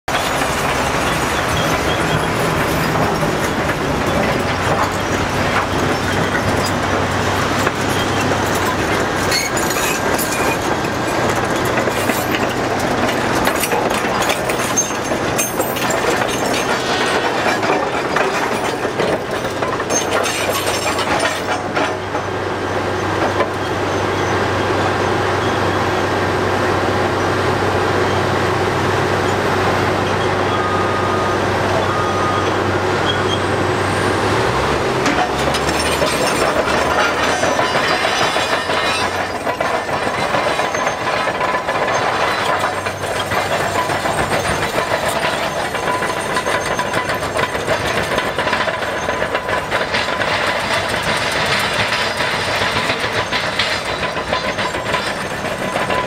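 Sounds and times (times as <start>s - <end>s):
big diesel engines running: 0.0s - 56.0s
clanking and rattling of rock: 0.1s - 25.7s, 34.4s - 56.0s
truck driving off: 0.1s - 56.0s.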